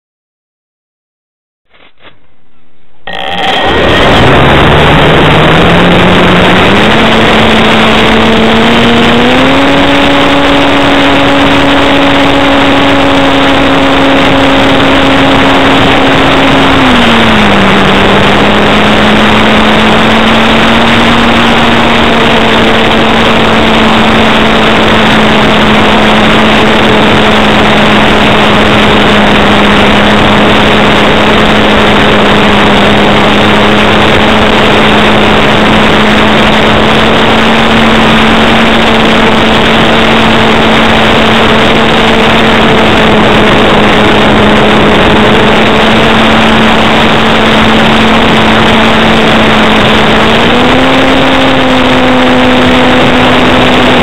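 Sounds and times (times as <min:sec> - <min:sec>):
electric motor and propeller whine: 0:03.0 - 0:54.0.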